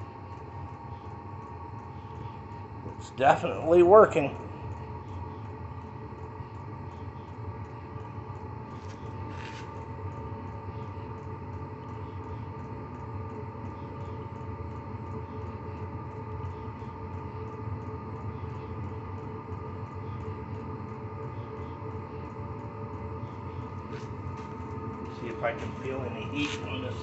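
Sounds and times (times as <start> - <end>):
air heater combustion and blower rush: 0.0 - 27.0
motor whine: 0.0 - 27.0.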